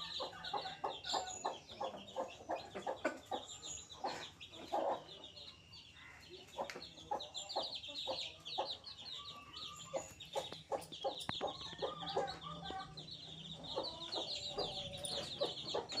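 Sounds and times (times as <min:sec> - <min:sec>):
baby chicks peeping: 0:00.0 - 0:16.0.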